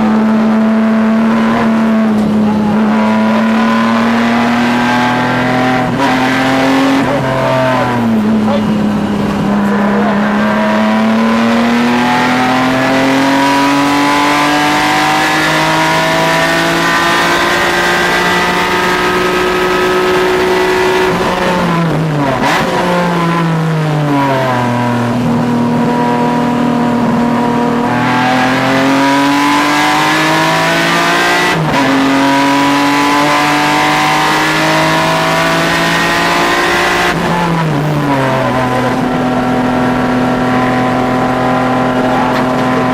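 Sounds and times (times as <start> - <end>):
race car engine at high revs: 0.0 - 42.9.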